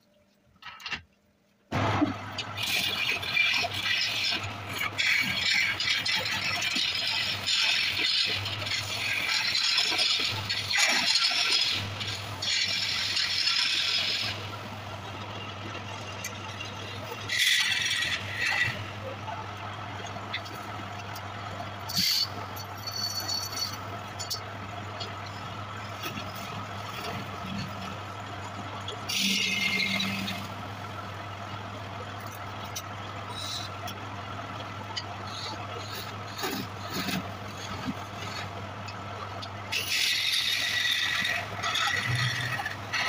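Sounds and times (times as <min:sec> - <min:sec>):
wood lathe motor hum: 0:03.0 - 0:37.6.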